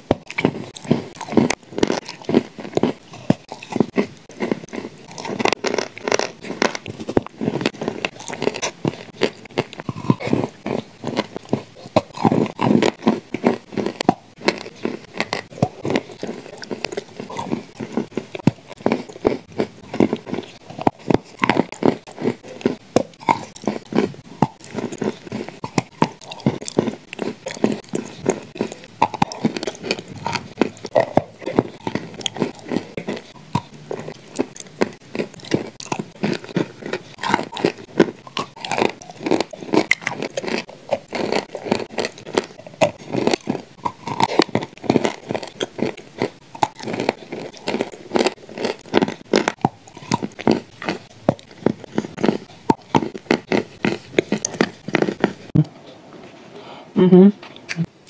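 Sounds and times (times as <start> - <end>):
person chewing crunchy cookies: 0.0 - 56.7.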